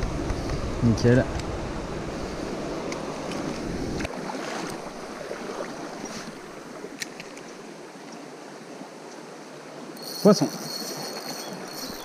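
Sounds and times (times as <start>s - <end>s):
stream running water: 0.0s - 12.0s.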